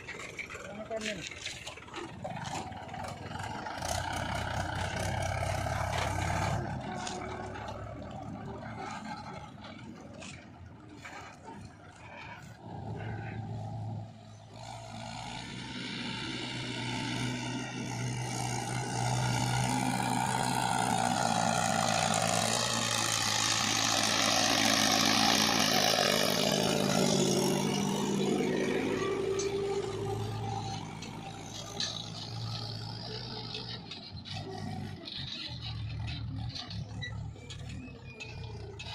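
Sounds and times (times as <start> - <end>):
tractor diesel engine: 0.0 - 38.9.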